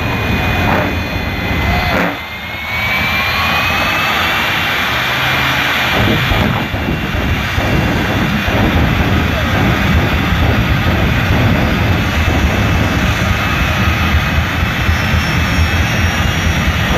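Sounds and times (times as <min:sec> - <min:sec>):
high whine rising in pitch: 0:00.0 - 0:16.9
jet engine with afterburner: 0:00.0 - 0:16.9.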